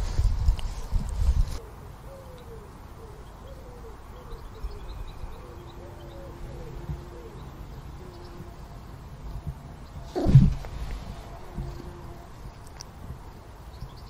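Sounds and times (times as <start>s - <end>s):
bird low calls: 1.5s - 14.0s.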